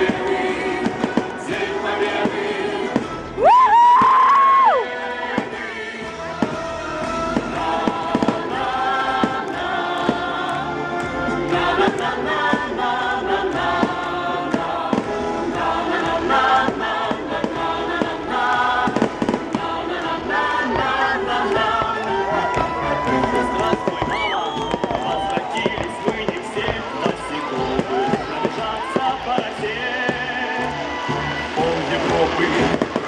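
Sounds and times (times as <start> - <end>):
choir singing: 0.0 - 3.4, 4.6 - 33.0
fireworks bangs: 0.0 - 4.4, 5.2 - 10.4, 11.5 - 33.0
music: 0.0 - 33.0.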